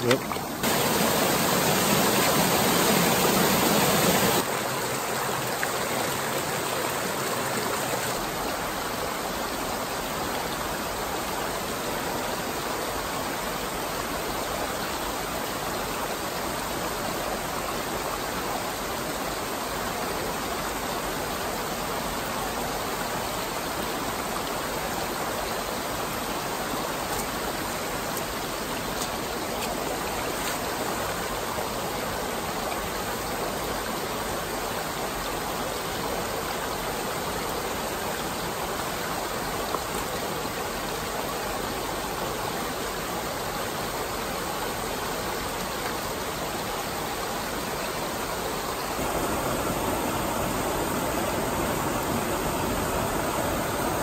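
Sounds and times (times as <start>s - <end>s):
water rushing over waterfall: 0.0s - 54.0s.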